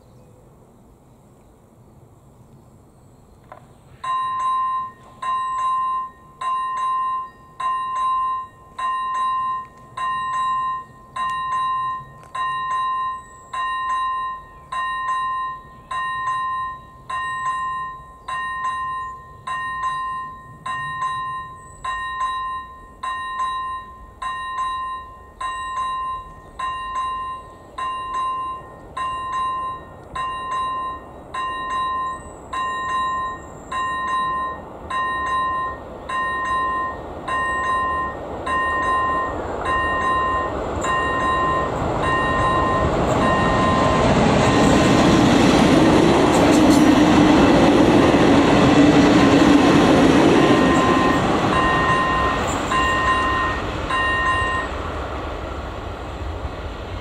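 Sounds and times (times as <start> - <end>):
level-crossing warning bell: 4.0 - 55.4.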